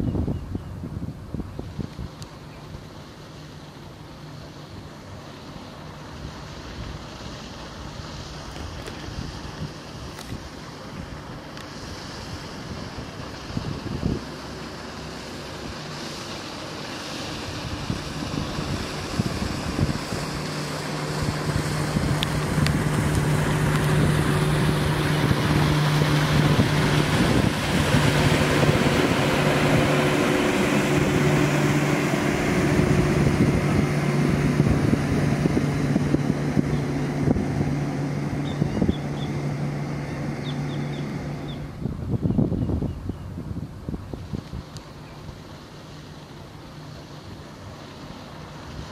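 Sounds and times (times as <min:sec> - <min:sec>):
wind on microphone: 0:00.0 - 0:03.0, 0:07.8 - 0:45.5
engine hum: 0:00.0 - 0:48.9.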